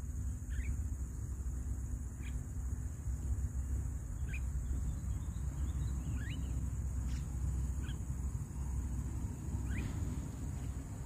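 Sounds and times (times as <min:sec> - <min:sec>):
high insect drone: 0:00.0 - 0:11.0
bird chirping: 0:00.1 - 0:01.4, 0:02.0 - 0:03.3, 0:03.9 - 0:11.0.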